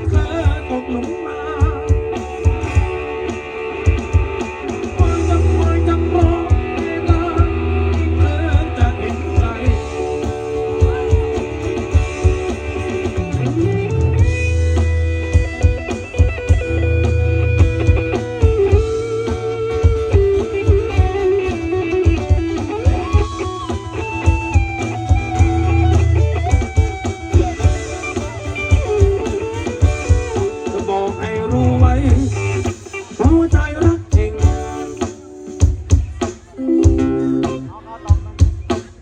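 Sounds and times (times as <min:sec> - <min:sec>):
electric guitar lead: 0:00.0 - 0:38.8
bass: 0:00.0 - 0:39.0
drums: 0:00.0 - 0:39.0.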